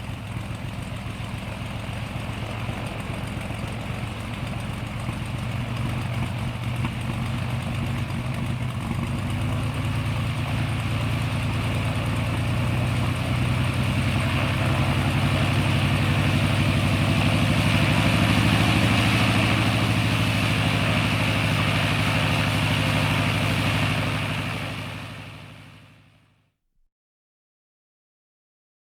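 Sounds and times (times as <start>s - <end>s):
propeller airplane engine idling: 0.0s - 26.2s.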